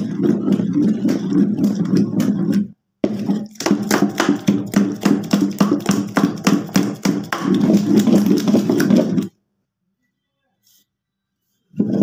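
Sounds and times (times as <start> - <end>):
wooden stick beating batter in bowl: 0.0 - 9.4, 11.7 - 12.0.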